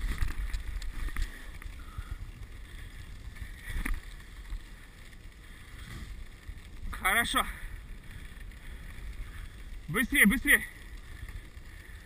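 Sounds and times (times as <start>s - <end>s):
sled runners rumbling on snow: 0.0s - 12.0s.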